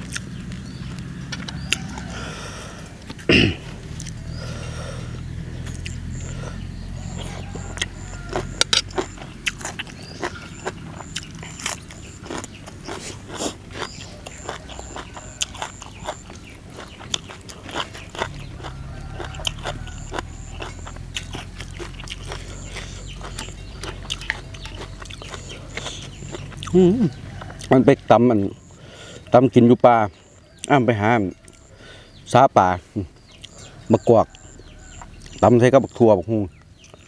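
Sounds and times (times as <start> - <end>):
person chewing crunchy food: 0.0 - 29.4, 31.4 - 31.8, 33.3 - 35.4.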